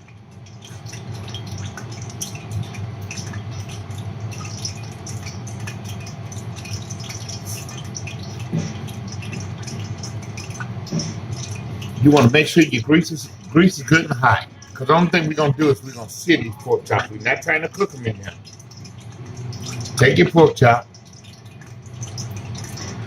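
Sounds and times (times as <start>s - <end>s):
grease crackling in a pan: 0.0s - 23.0s
low hum: 0.0s - 23.0s.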